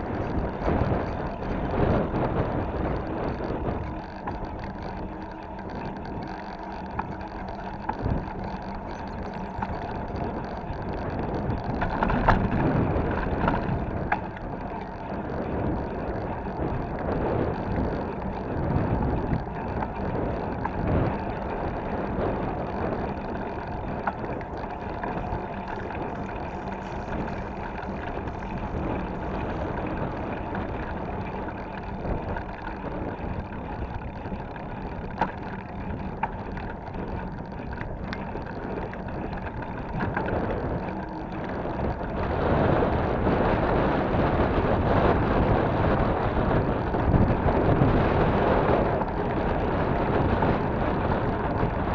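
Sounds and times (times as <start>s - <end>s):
bicycle tyre and road noise: 0.0s - 51.9s
bike clicks and rattles: 0.0s - 51.9s
wind noise on microphone: 0.0s - 51.9s.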